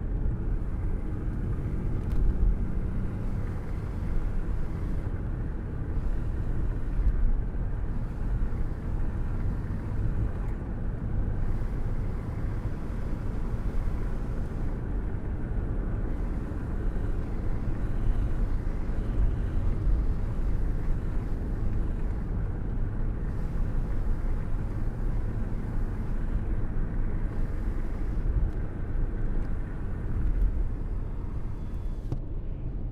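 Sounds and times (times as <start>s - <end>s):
car road and wind rumble: 0.0s - 32.9s.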